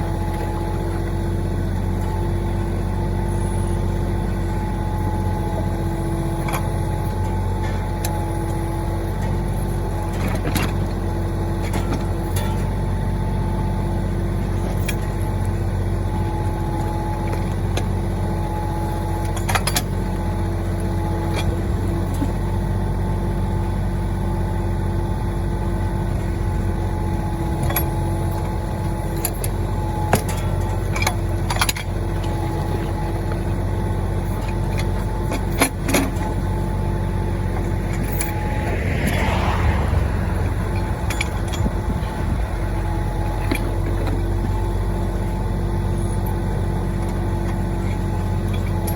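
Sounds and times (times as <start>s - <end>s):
backhoe knocks and clanks: 0.0s - 48.9s
tractor diesel engine running: 0.0s - 48.9s.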